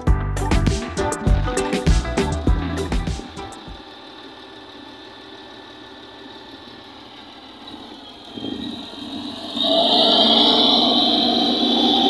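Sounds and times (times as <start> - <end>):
high engine whine: 0.0 - 12.0
diesel engine running close by: 0.8 - 12.0
distant machinery engine: 0.8 - 12.0.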